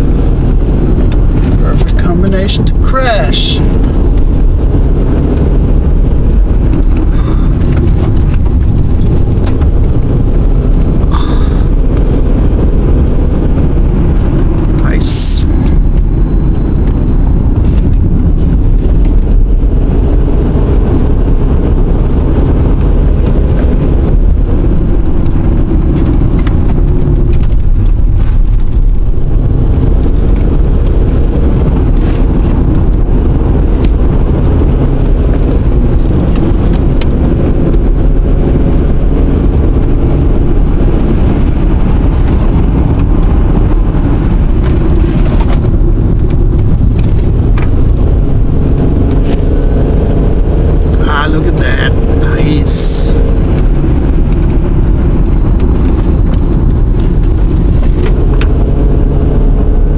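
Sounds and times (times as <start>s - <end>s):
car interior rumble: 0.0s - 59.9s.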